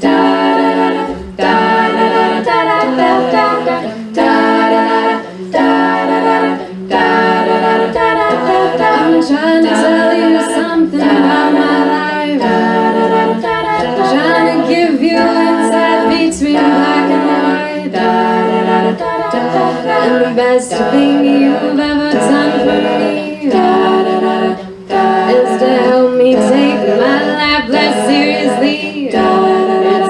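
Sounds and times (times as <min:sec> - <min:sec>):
women singing a cappella: 0:00.0 - 0:30.0.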